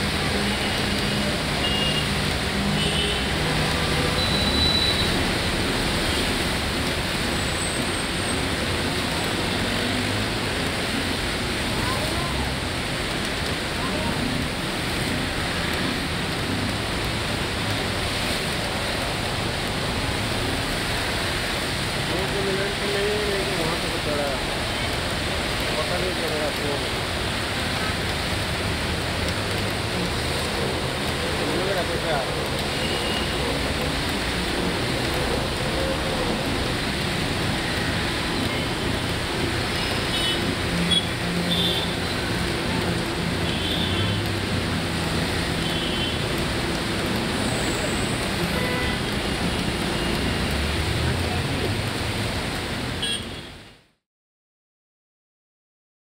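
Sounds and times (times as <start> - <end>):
traffic engines rumbling: 0.0 - 53.9
tyres swishing on wet road: 0.0 - 54.0.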